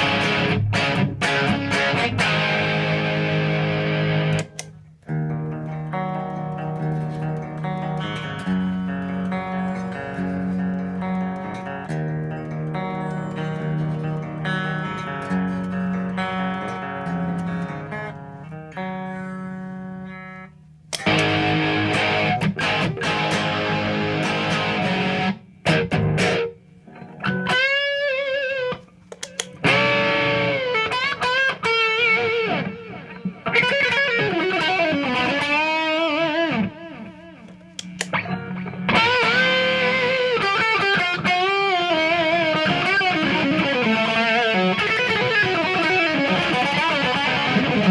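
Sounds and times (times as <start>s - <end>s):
distorted electric guitar lead: 0.0s - 47.9s
electric guitar sustained chords: 0.0s - 47.9s.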